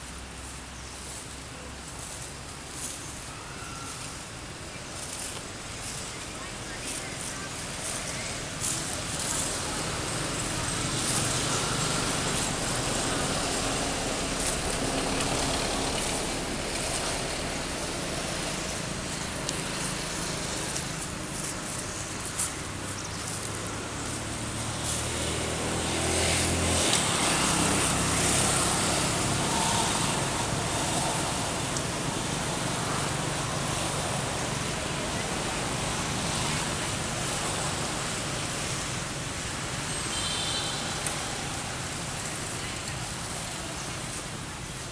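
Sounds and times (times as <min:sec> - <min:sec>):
faint low engine hum: 0:00.0 - 0:44.9
road traffic hiss: 0:00.0 - 0:44.9
rushing outdoor background noise: 0:00.0 - 0:44.9.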